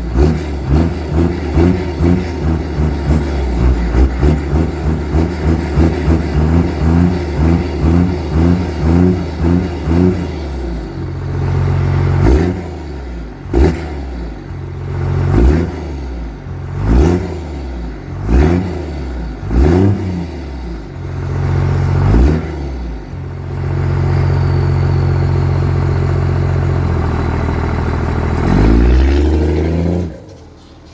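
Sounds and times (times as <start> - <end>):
diesel engine revving: 0.0 - 30.9.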